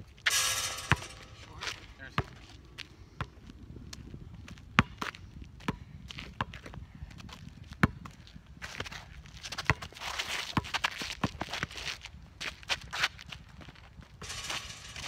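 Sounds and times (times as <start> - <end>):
basketball bouncing on asphalt: 0.2 - 13.4, 14.0 - 15.0.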